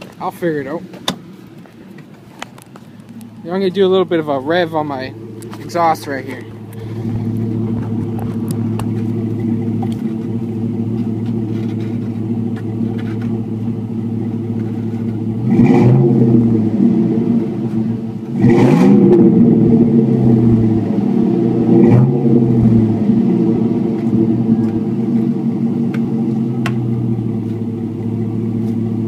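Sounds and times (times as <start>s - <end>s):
loud truck engine idling and revving: 0.0s - 29.0s.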